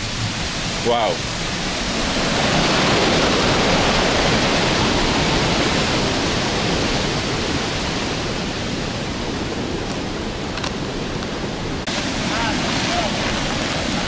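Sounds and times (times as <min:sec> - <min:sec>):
turbulent water rushing: 0:00.0 - 0:14.0.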